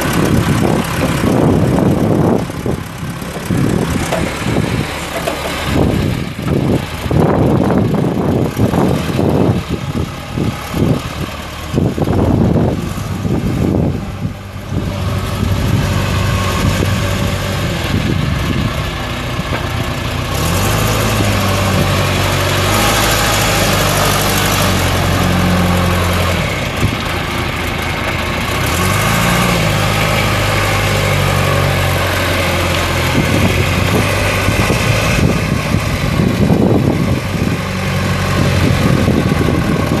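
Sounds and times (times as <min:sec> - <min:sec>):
backhoe diesel engine revving: 0:00.0 - 0:40.0.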